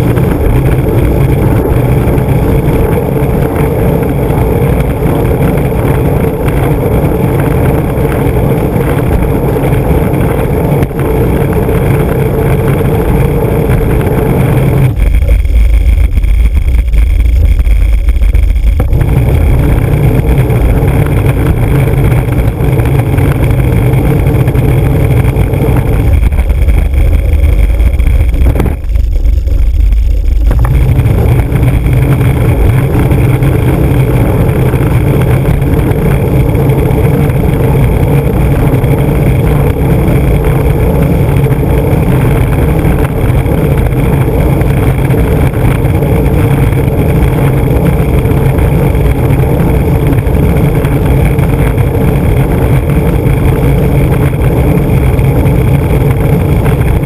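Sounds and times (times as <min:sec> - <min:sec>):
skateboard wheels rolling on asphalt: 0:00.0 - 0:57.0.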